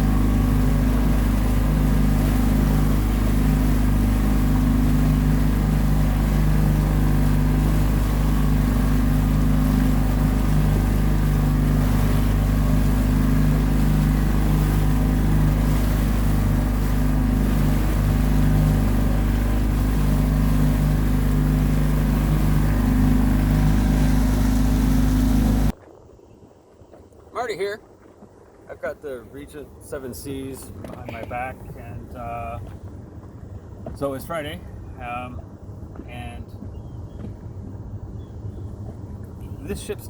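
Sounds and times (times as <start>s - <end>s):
outboard motor running: 0.0s - 25.8s, 29.8s - 40.0s.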